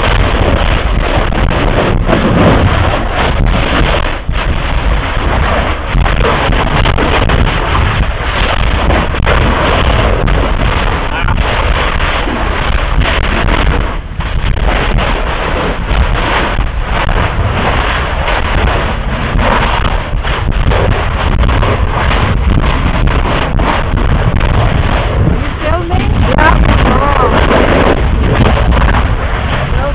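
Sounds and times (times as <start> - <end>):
crackling blasts: 0.0 - 29.9
lava fountain roaring: 0.0 - 29.9
wind buffeting microphone: 0.0 - 29.9.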